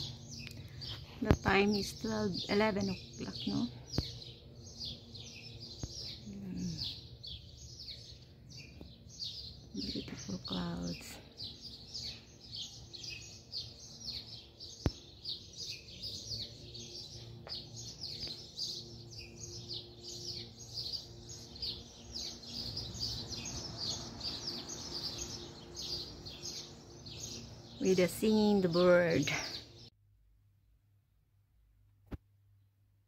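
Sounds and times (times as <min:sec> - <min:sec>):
birds chirping: 0:00.0 - 0:29.9.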